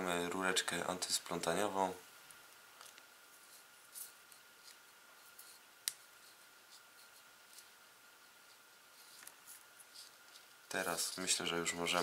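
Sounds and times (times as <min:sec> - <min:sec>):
faint high hum: 0:00.0 - 0:12.0.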